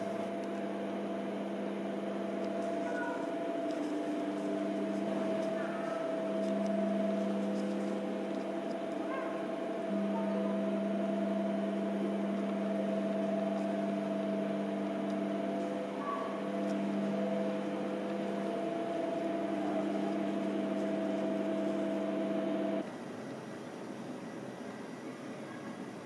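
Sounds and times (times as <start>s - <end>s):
steady machine hum: 0.0s - 23.7s.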